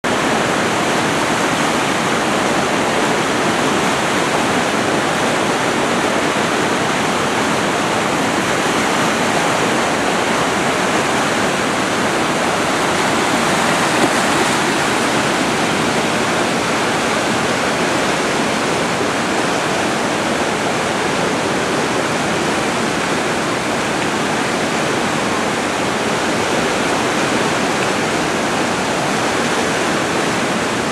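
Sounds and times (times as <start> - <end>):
whitewater rapids rushing: 0.0 - 30.9.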